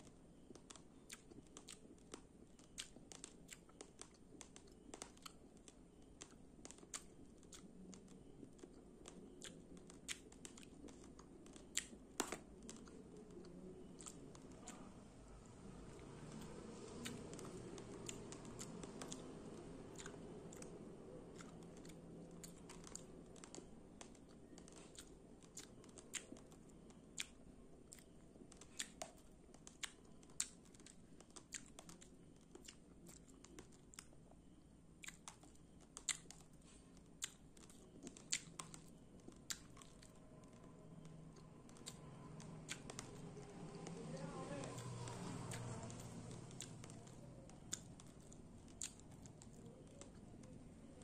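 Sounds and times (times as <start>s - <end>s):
soft chewing: 0.0s - 51.0s.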